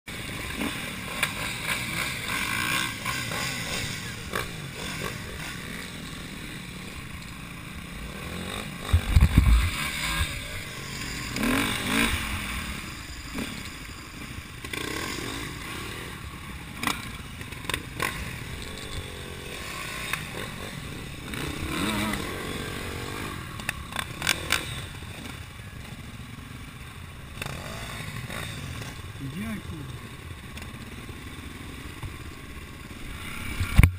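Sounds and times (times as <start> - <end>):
dirt bike engines running: 0.1 - 33.9.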